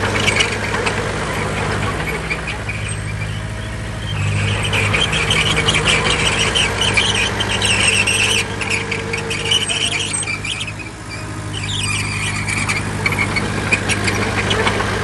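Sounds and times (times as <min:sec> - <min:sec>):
diesel bulldozer engine running: 0:00.0 - 0:15.0
high metallic squealing: 0:00.0 - 0:15.0.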